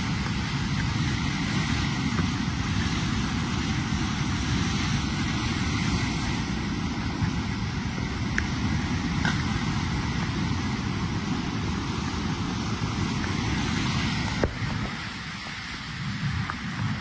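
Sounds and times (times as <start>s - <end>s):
floodwater roaring: 0.0s - 17.0s.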